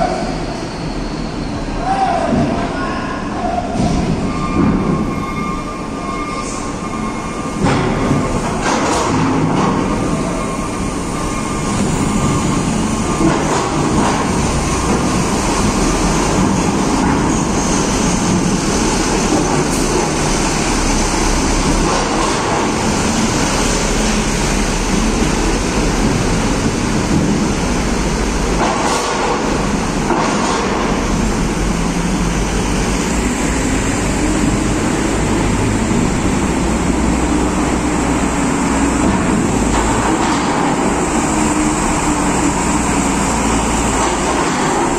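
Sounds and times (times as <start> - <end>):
diesel engines rumbling in enclosed deck: 0.0 - 44.9.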